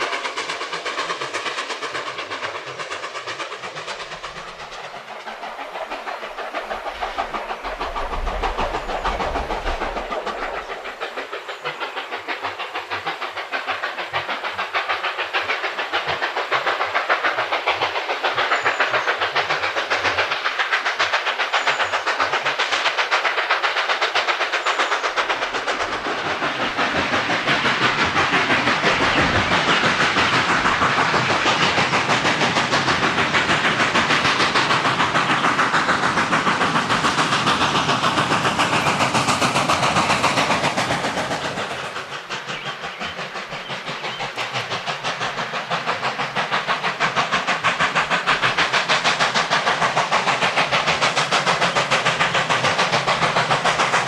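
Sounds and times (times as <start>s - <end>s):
hissing steam: 0.0s - 54.0s
steam locomotive exhaust chuffs: 0.0s - 54.0s.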